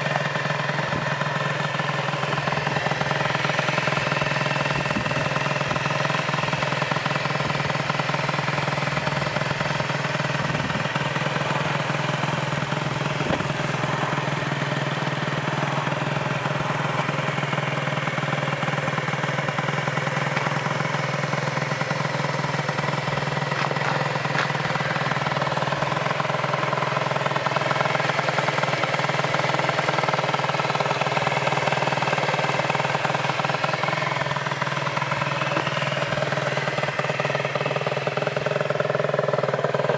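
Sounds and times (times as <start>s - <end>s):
moped engine idling: 0.0s - 39.9s.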